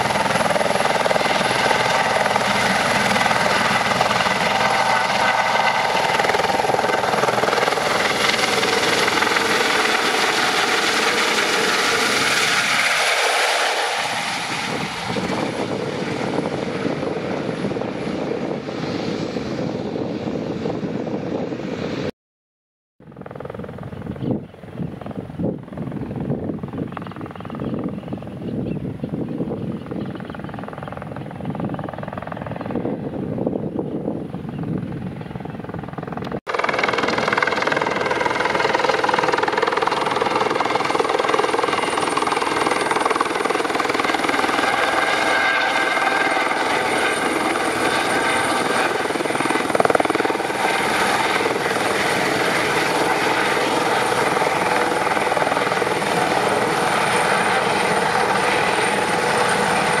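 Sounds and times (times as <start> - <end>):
helicopter rotor and turbine whine: 0.0 - 22.1, 23.0 - 60.0.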